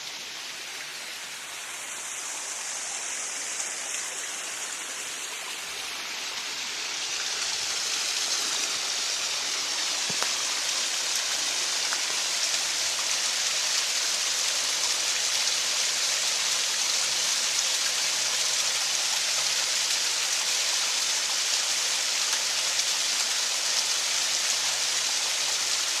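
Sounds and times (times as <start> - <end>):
water pouring over waterfall: 0.0 - 26.0.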